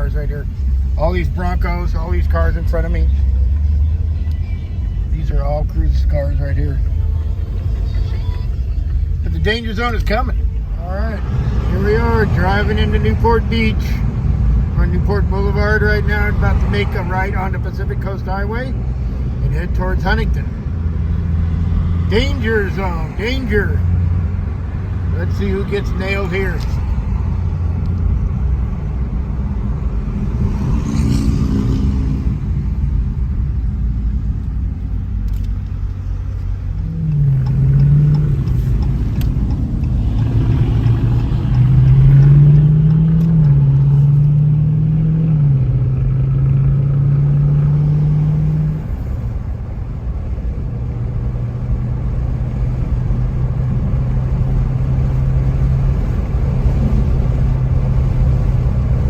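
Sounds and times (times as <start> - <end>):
car engine revving: 0.0 - 59.0
traffic rumble: 0.0 - 59.0.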